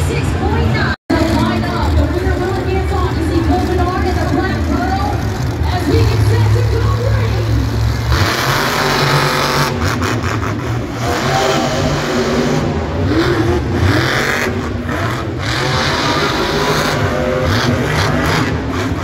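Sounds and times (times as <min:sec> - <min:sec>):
truck engine revving hard: 0:01.1 - 0:19.0.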